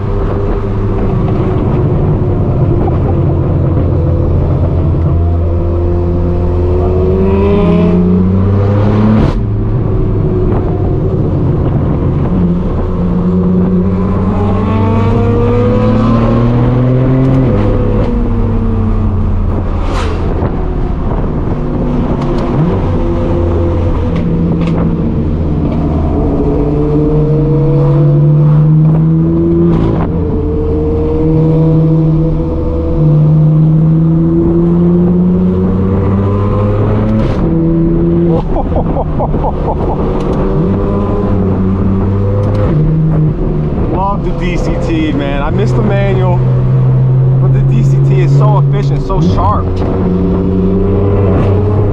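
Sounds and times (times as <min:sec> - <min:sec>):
car engine accelerating through gears: 0:00.0 - 0:51.9.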